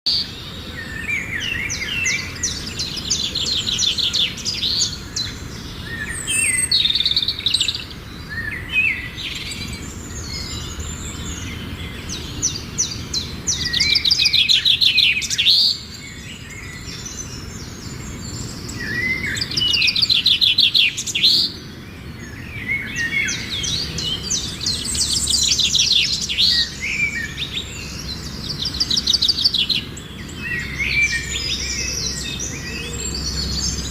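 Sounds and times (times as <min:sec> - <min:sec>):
birds singing and trilling: 0:00.0 - 0:33.9.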